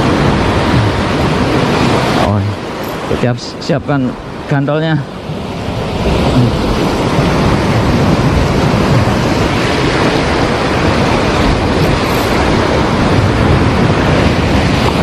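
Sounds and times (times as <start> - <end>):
heavy surf breaking: 0.0 - 15.0
wind rumbling on microphone: 0.0 - 15.0.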